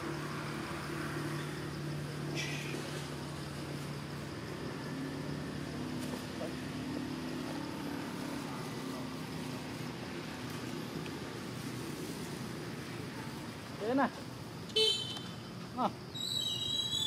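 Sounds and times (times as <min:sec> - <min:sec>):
vehicle engine humming: 0:00.0 - 0:16.1
outdoor hiss: 0:02.1 - 0:17.0.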